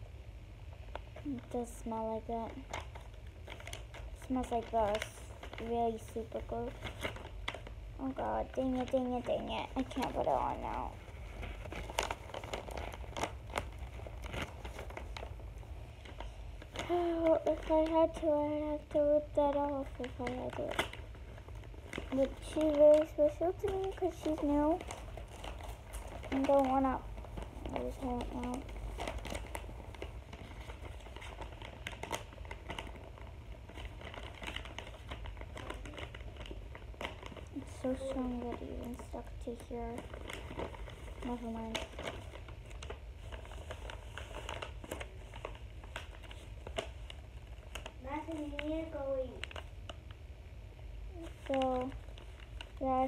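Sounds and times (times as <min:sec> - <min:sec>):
paper crinkling and rustling: 0:01.0 - 0:50.2, 0:51.1 - 0:53.0.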